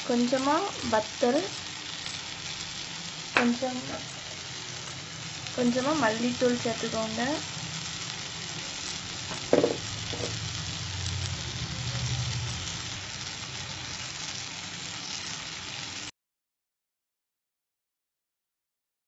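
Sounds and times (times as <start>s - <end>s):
vegetables sizzling in hot oil: 0.0s - 16.1s.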